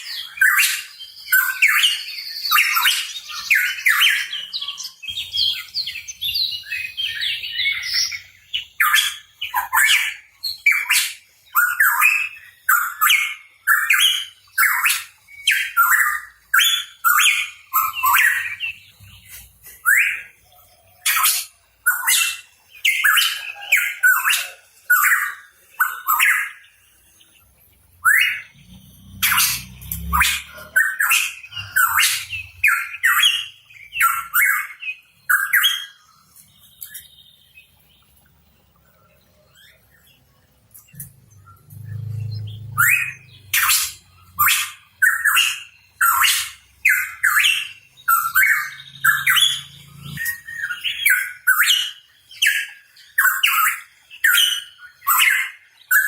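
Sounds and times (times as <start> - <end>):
bird calling in sharp phrases: 0.0 - 56.0.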